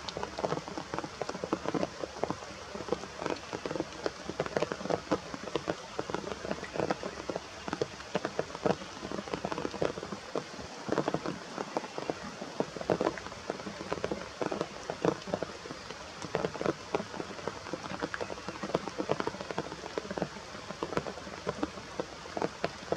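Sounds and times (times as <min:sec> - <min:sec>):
rain pattering: 0:00.0 - 0:22.9.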